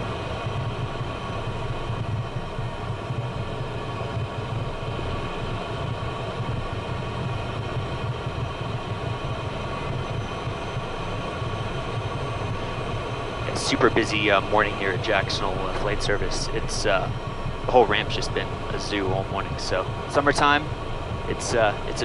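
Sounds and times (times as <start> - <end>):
jet engines rumble and whine: 0.0 - 22.0.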